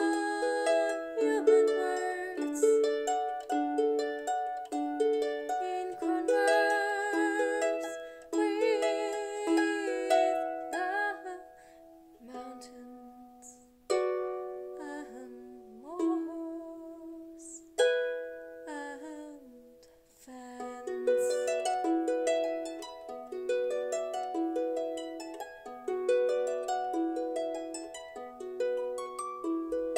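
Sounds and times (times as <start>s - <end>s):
harp music: 0.0s - 29.9s.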